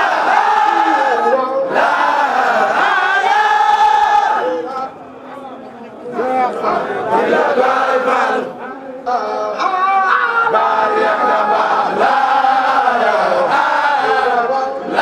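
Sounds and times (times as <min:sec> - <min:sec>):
men chanting in unison: 0:00.0 - 0:04.9, 0:06.2 - 0:15.0.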